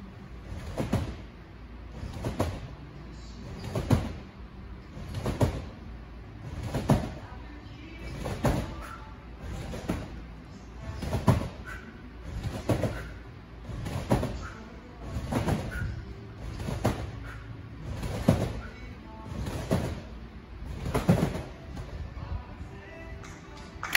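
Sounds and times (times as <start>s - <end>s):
trampoline landing thuds: 0.4s - 2.8s, 3.4s - 5.8s, 6.4s - 22.2s.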